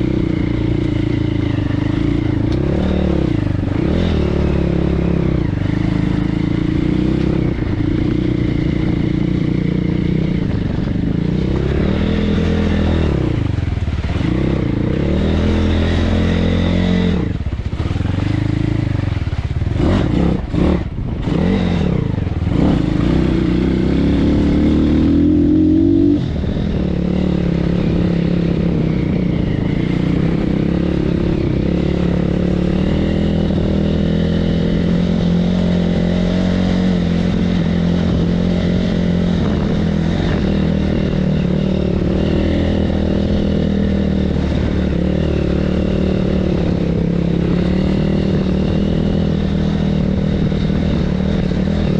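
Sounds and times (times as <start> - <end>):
motorbike engine revving: 0.0 - 51.9.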